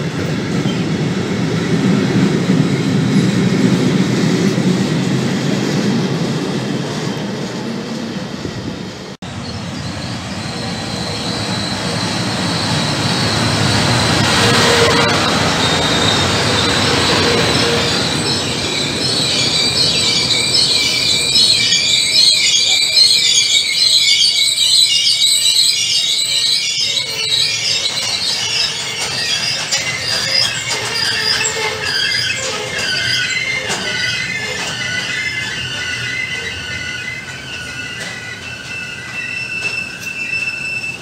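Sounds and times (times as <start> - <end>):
freight train rumble: 0.0 - 41.0
train wheels squealing on rails: 0.0 - 41.0.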